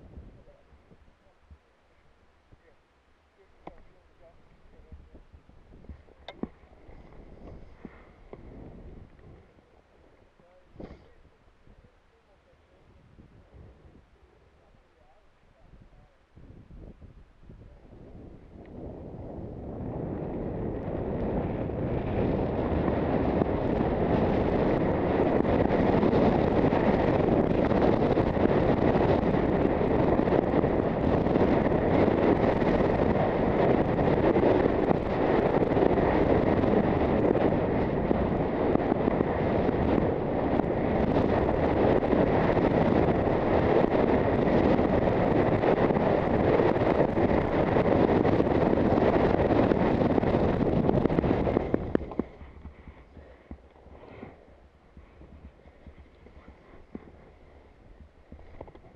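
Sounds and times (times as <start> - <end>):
wind buffeting microphone: 0.0 - 2.7, 3.4 - 58.9.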